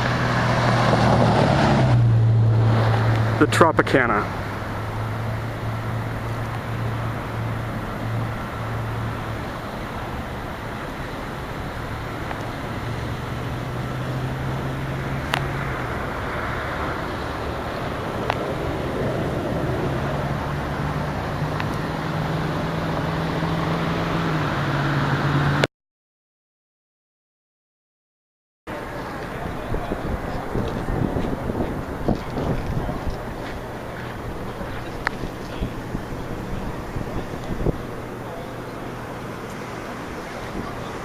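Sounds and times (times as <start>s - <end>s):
car engine hum and road noise: 0.0s - 25.7s, 28.7s - 41.0s.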